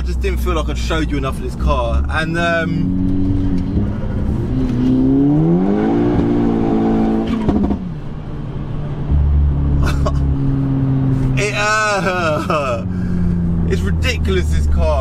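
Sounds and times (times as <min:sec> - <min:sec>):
car engine accelerating hard: 0:01.2 - 0:15.0.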